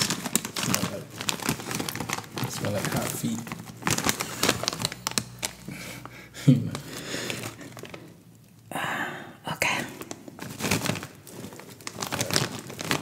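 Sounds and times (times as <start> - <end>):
chip bag crinkling: 0.0 - 8.6, 9.7 - 13.0.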